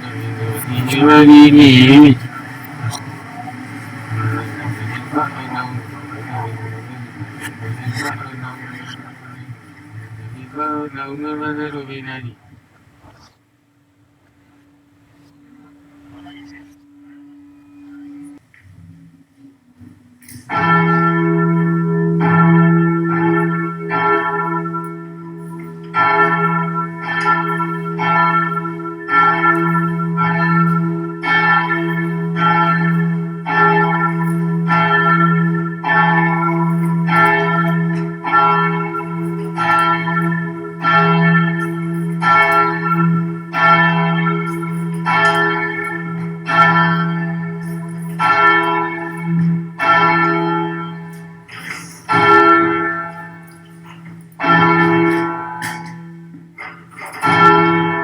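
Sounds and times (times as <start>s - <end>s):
church bell strikes: 0.0s - 12.2s, 20.2s - 58.0s.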